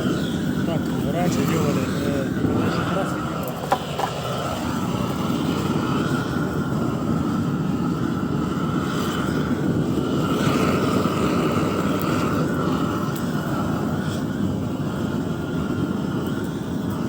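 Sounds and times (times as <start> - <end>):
gas blowtorch hissing: 0.0 - 17.0.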